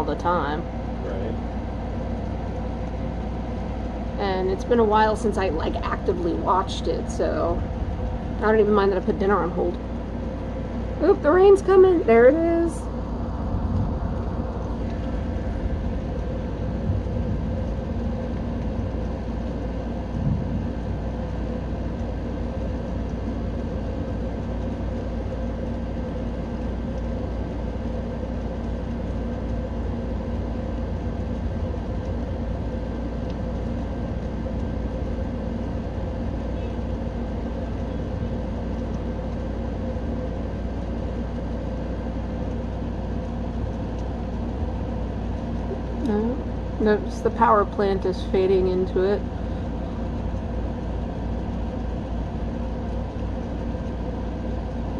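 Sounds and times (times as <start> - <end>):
mechanical hum with tones: 0.0 - 54.9.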